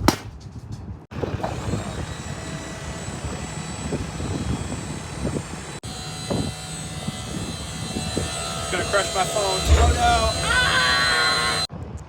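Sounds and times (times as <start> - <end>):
hydraulic pump droning and whining: 1.1 - 11.7.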